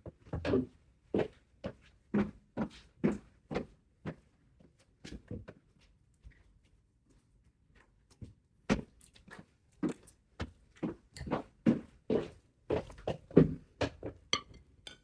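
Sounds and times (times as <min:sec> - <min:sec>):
footsteps walking: 0:00.2 - 0:14.2.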